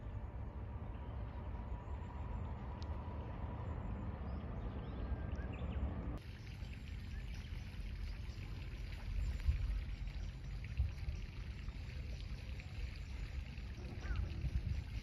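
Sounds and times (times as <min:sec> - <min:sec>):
low uneven rumble: 0:00.0 - 0:15.0.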